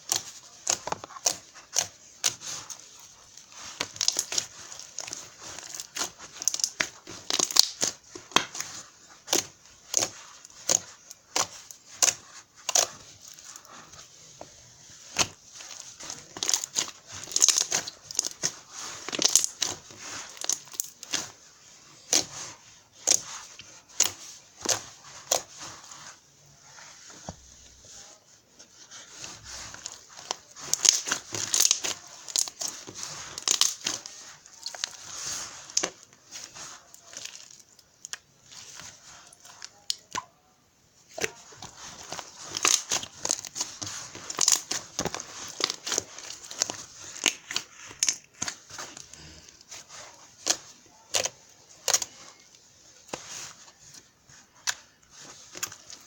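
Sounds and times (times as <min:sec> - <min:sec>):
crinkling and rustling: 0:00.0 - 0:56.0.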